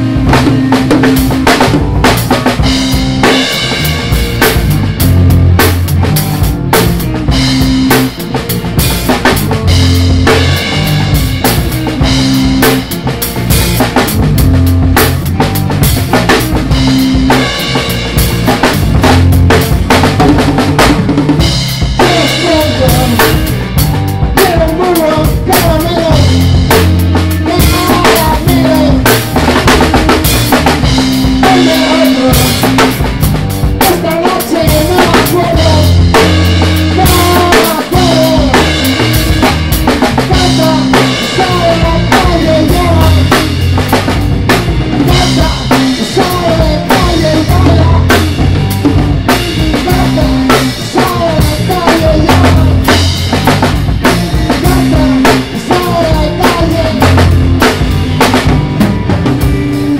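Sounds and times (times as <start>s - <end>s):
drums keeping steady beat: 0.0s - 59.9s
electric guitar melodic lines: 0.0s - 59.9s
live jazz-rock band: 0.0s - 59.9s.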